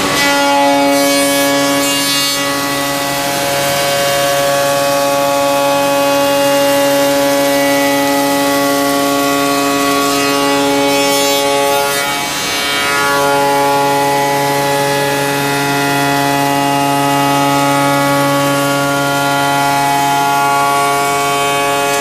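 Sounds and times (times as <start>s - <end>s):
machine spindle routing wood: 0.0s - 22.0s.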